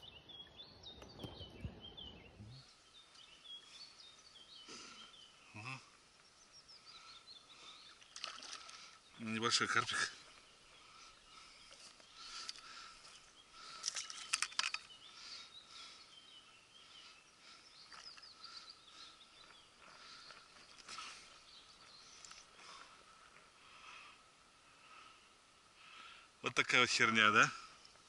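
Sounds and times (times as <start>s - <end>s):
birds singing: 0.0s - 28.0s.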